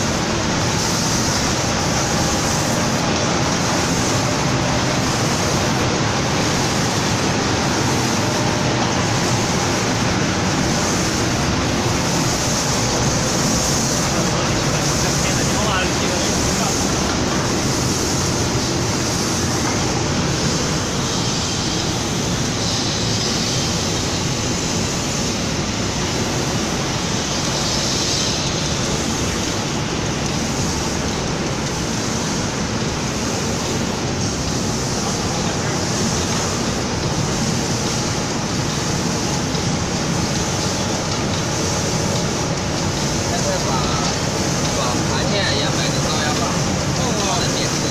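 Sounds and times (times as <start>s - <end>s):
paint spraying machine hissing: 0.0s - 47.9s.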